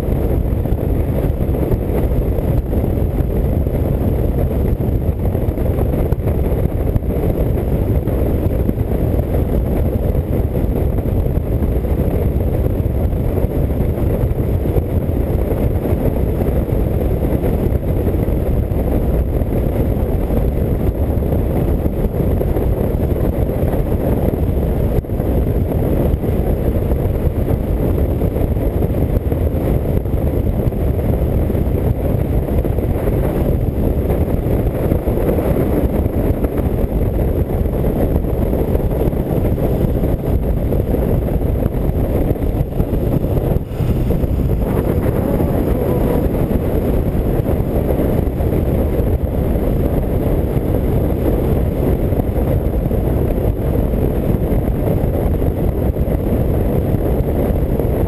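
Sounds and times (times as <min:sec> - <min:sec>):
motorcycle engine drone: 0:00.0 - 0:58.0
wind rushing: 0:00.0 - 0:58.0.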